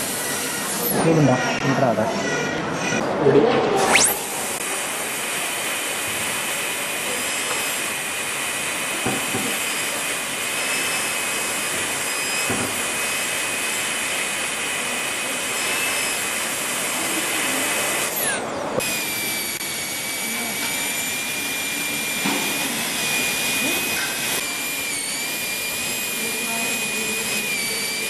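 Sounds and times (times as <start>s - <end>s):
dental drill whining: 0.0s - 1.5s, 3.9s - 28.0s.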